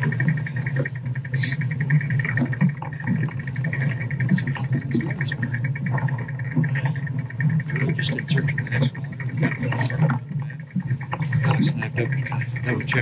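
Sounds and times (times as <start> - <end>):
fast high ticking: 0.0 - 13.0.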